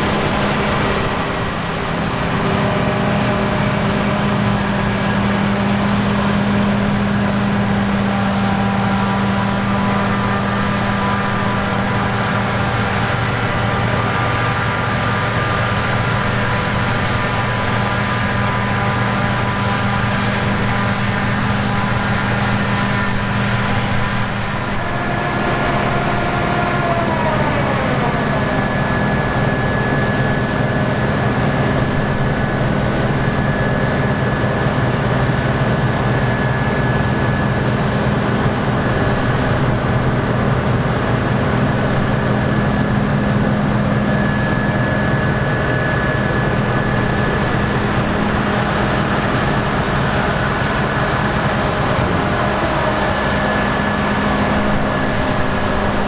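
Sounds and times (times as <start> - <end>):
diesel machinery running: 0.0 - 56.0
steady high whine: 0.0 - 56.0.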